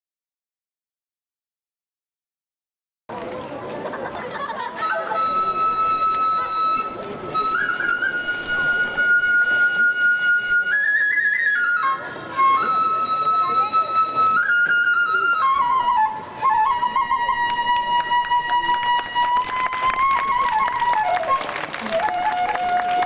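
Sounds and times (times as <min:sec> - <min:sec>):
bamboo flute melody: 0:04.5 - 0:23.0.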